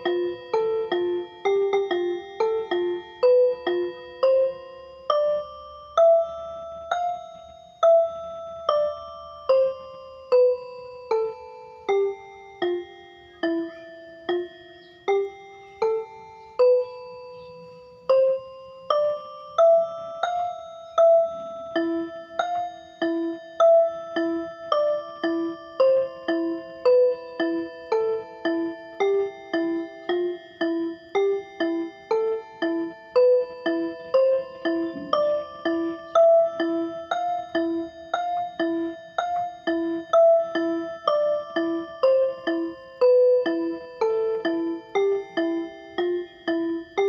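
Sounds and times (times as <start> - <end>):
gentle bell-like melody: 0.0 - 47.0.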